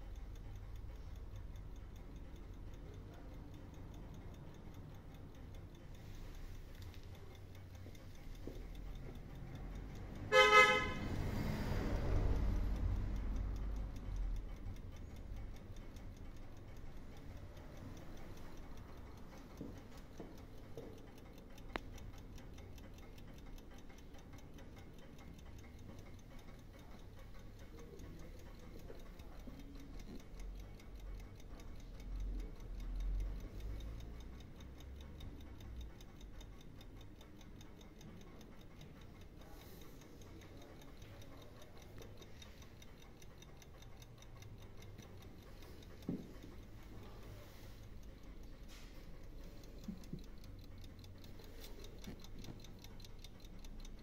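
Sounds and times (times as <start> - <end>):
clock ticking quickly: 0.0 - 54.0.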